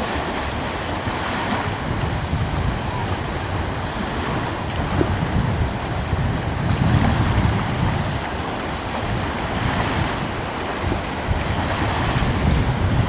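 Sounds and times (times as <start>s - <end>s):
deep surf rumble: 0.0s - 13.0s
ocean waves breaking: 0.0s - 13.0s.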